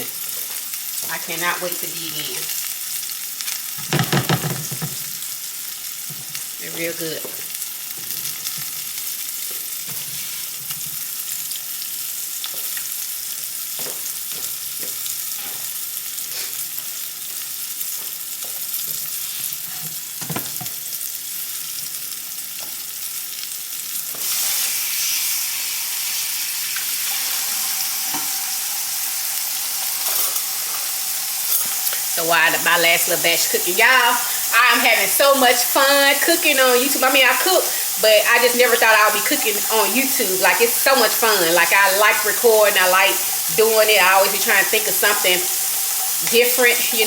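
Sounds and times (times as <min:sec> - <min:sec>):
food sizzling in hot oil: 0:00.0 - 0:47.0.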